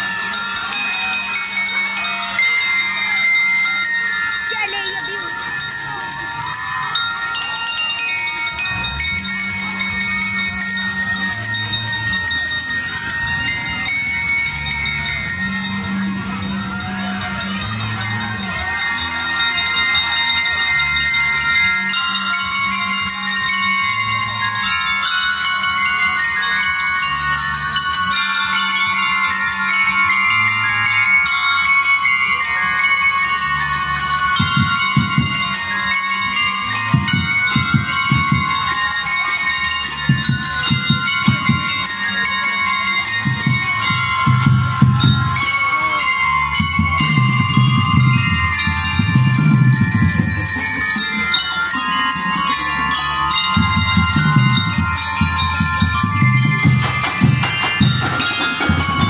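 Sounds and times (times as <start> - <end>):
bell lyres playing melody: 0.0 - 59.0.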